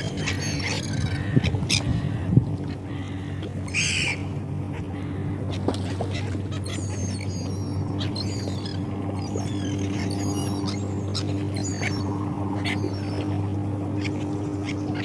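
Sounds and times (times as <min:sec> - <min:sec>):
seagulls calling: 0:00.0 - 0:15.0
steady low hum: 0:00.0 - 0:15.0.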